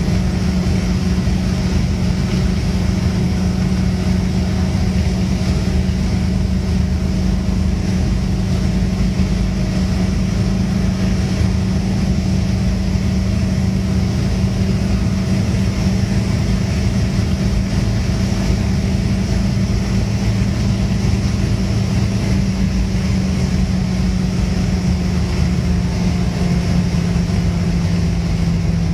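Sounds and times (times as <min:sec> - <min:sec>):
car engine running hard: 0:00.0 - 0:28.9
road and wind noise: 0:00.0 - 0:28.9.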